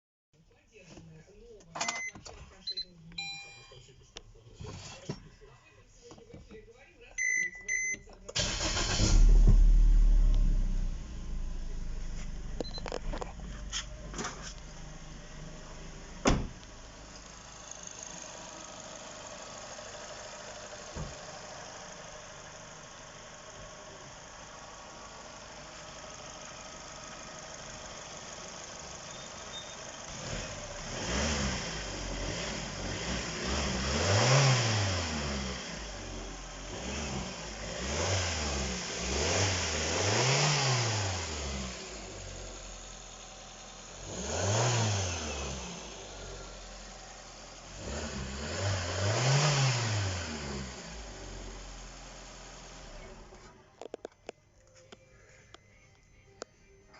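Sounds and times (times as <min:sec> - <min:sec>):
car engine idling and revving: 0:07.7 - 0:53.9.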